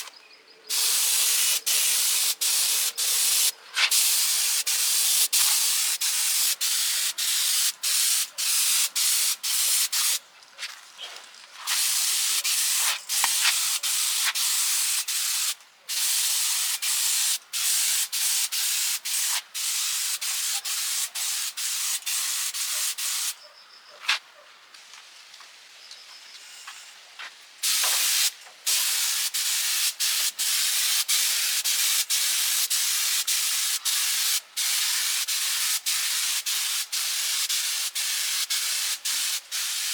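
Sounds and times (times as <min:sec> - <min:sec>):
spray gun hissing: 0:00.7 - 0:10.2, 0:11.7 - 0:23.4, 0:27.6 - 0:39.9.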